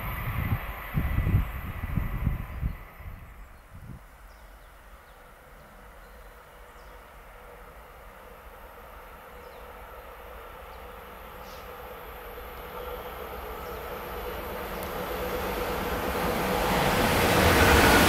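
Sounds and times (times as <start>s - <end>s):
electric train approaching: 0.0s - 18.0s.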